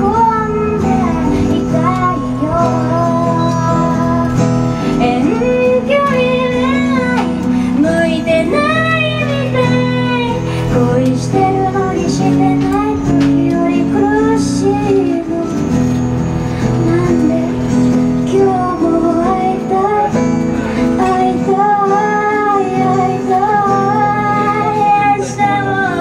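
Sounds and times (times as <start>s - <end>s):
woman singing: 0.0s - 16.0s, 16.6s - 26.0s
strummed acoustic guitar: 0.0s - 26.0s.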